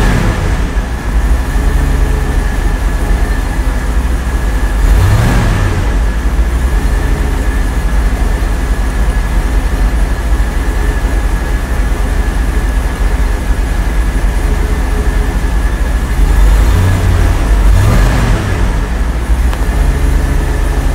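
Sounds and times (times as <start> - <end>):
car engine idling: 0.0 - 20.9
high whine: 0.0 - 20.9.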